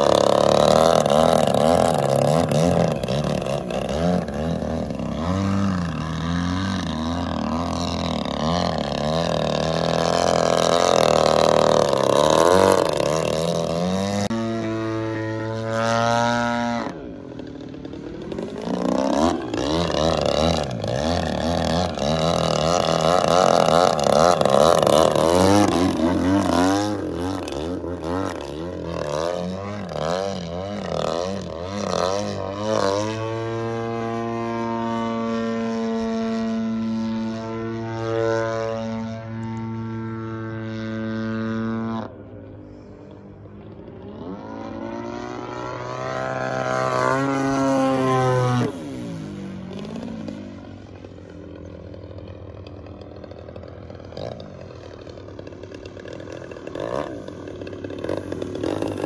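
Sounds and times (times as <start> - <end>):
model plane engine and propeller: 0.0 - 59.0.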